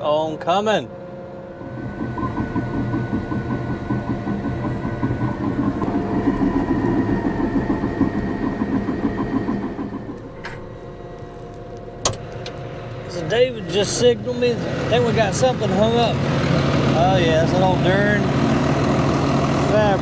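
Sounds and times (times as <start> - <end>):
bulldozer diesel engine running: 1.4 - 20.0.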